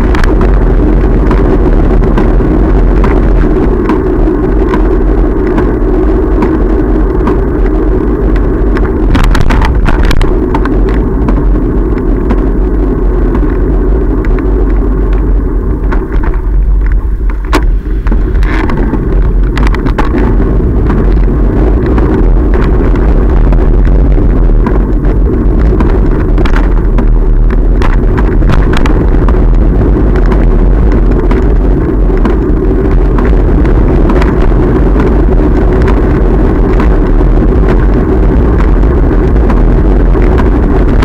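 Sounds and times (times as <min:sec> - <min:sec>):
bicycle clicks and rattles: 0:00.0 - 0:41.0
road rumble: 0:00.0 - 0:41.0
wind: 0:00.0 - 0:41.0.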